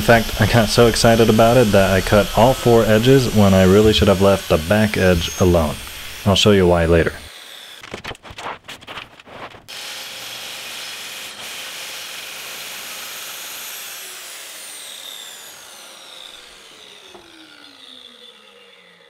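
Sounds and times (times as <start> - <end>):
track saw cutting wood: 0.0 - 8.0, 9.7 - 19.0.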